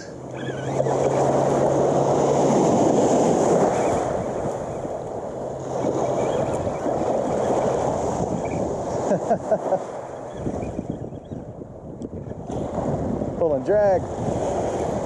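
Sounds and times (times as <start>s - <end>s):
small waves washing in shallows: 0.0s - 15.0s
wind buffeting microphone: 0.0s - 15.0s.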